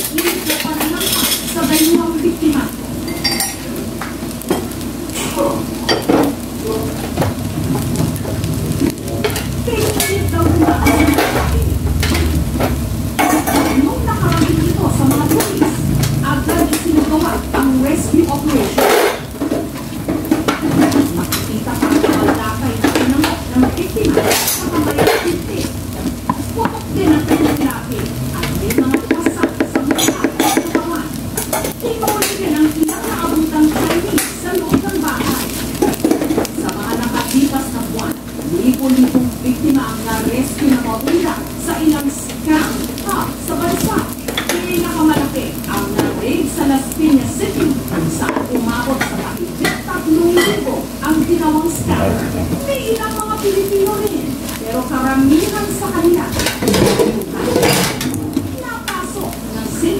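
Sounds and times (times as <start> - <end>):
rice sizzling in a frying pan: 0.0 - 59.9.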